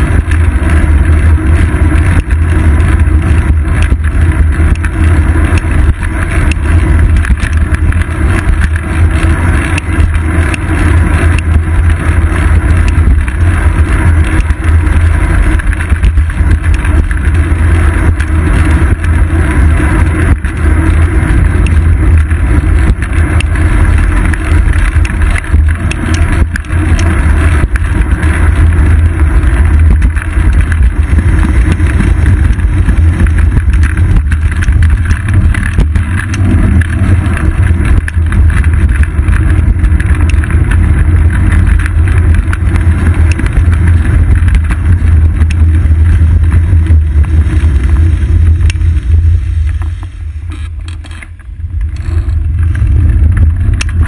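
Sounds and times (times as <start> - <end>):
road rumble: 0.0 - 54.0
wind buffeting: 0.0 - 54.0.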